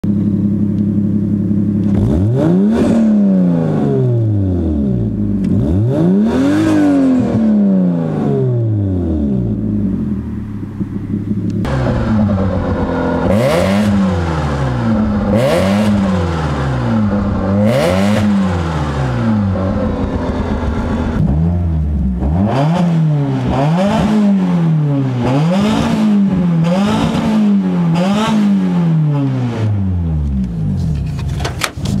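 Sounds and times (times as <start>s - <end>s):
four-cylinder engine revving: 0.0s - 31.0s
rotary engine revving: 1.8s - 9.7s, 11.2s - 30.0s.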